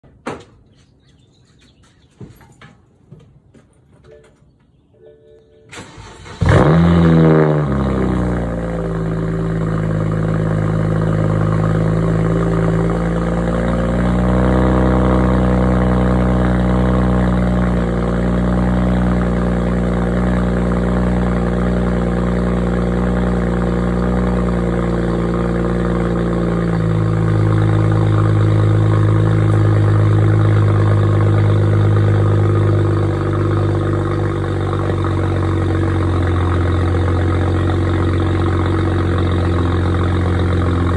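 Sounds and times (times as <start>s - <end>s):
car engine cold start revving: 5.7s - 40.9s
car engine idling: 5.8s - 40.9s.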